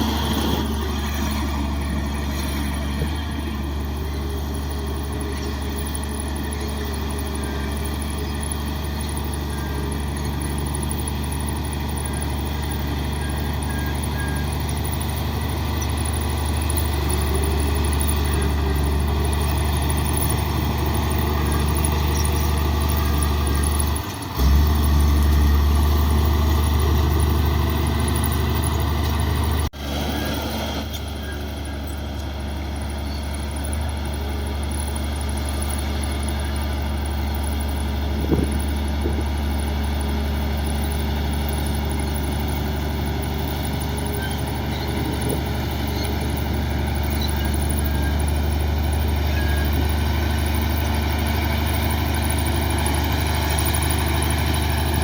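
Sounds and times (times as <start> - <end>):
bulldozer diesel engine droning: 0.0 - 55.0.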